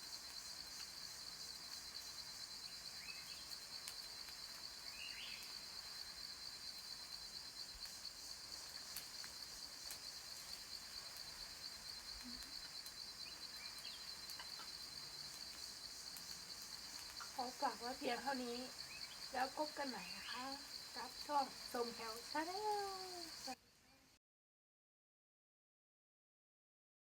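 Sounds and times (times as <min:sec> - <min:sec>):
cicadas buzzing: 0:00.0 - 0:23.6.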